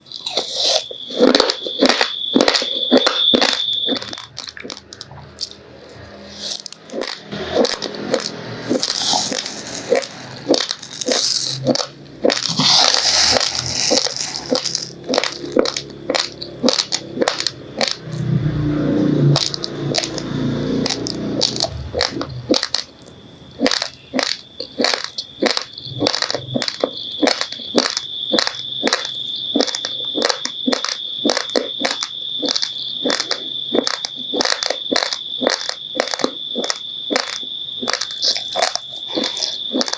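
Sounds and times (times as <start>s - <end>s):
rice grains crunched while chewing: 0.0s - 39.9s
steady high-pitched whine: 0.0s - 39.9s.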